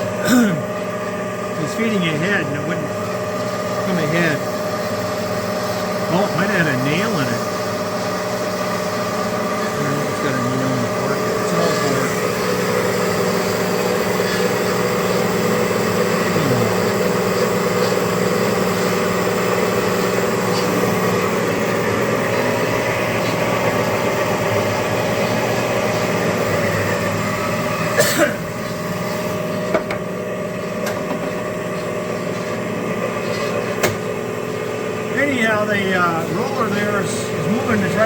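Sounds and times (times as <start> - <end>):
band saw motor humming: 0.0 - 38.0.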